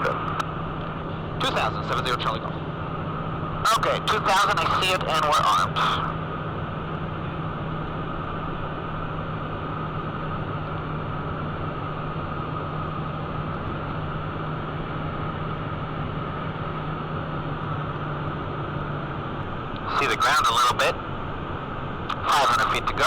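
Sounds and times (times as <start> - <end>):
jet engines in cockpit: 0.0 - 23.0.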